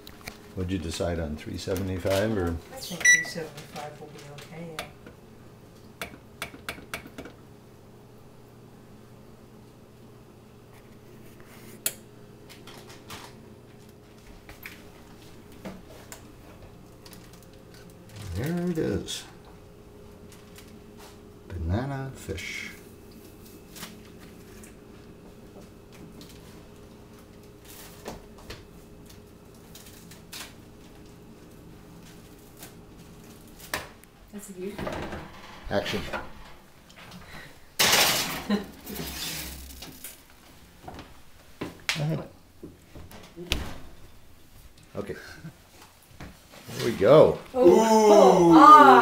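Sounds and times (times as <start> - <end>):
steady low hum: 0.0 - 47.5.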